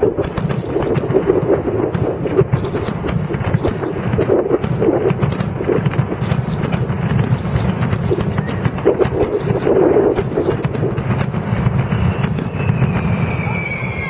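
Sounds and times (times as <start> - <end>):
aerial fireworks booming: 0.0 - 14.0
firework crackles: 0.0 - 14.0.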